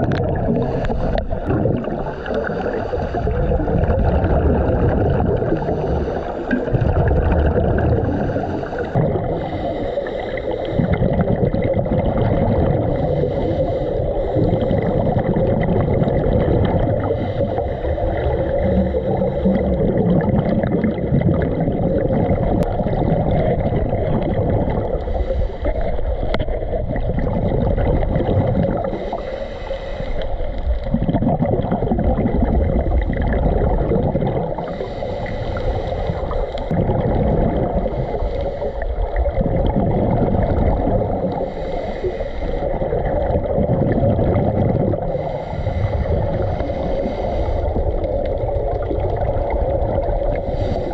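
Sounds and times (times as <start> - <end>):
regulator exhalation bubbles: 0.0 - 29.3, 30.2 - 50.9
muffled underwater rumble and hum: 0.0 - 50.9.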